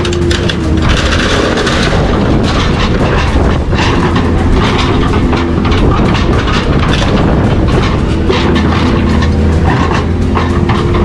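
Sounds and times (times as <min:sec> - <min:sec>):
heavy rumble: 0:00.0 - 0:11.0
metal clanking and grinding: 0:00.0 - 0:11.0.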